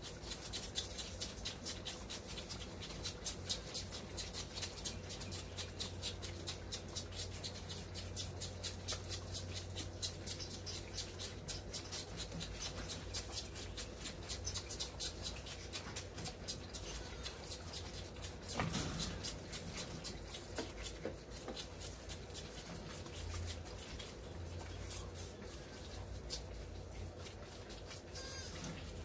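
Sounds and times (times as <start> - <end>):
fawns suckling wet smacking: 0.0 - 29.0.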